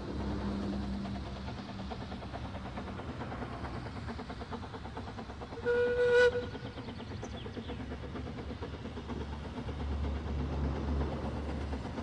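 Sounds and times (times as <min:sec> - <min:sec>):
steam train running: 0:00.0 - 0:12.0.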